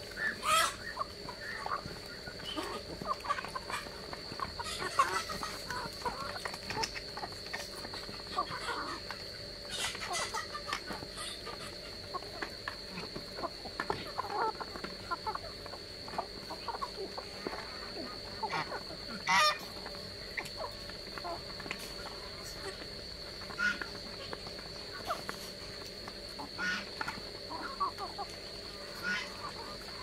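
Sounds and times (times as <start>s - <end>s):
soft clucks: 0.2s - 30.0s.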